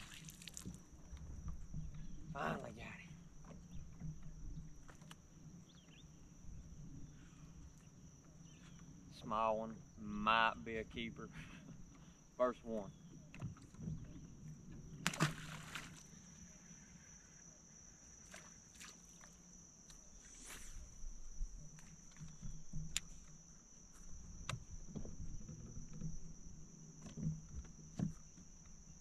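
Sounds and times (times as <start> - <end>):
insects chirping chorus: 0.0 - 29.0.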